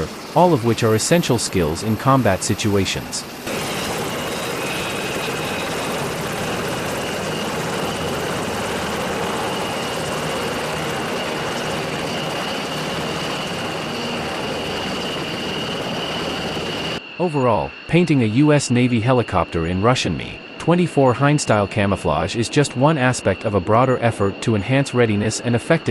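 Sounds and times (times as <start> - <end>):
helicopter engine and rotor: 0.0 - 25.9
thin high whine: 0.4 - 8.3, 9.5 - 25.9.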